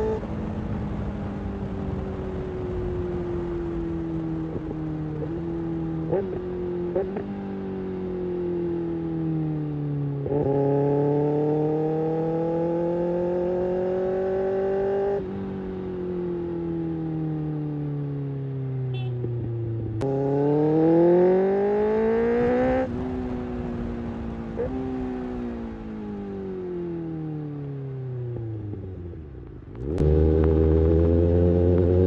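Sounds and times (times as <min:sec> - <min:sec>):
motorcycle engine revving: 0:01.8 - 0:32.0.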